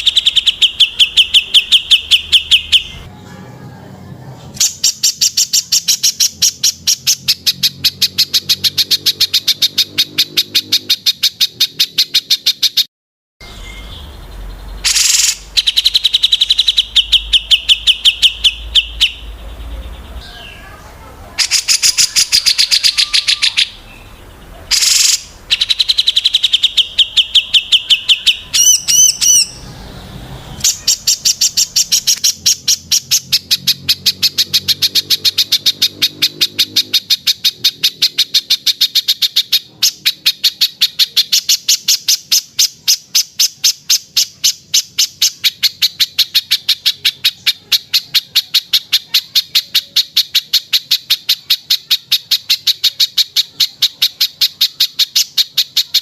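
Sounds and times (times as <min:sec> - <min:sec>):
songbird trills: 0:00.0 - 0:03.1, 0:13.4 - 0:56.0
whistled bird notes: 0:00.0 - 0:03.1, 0:13.4 - 0:20.8, 0:21.4 - 0:56.0.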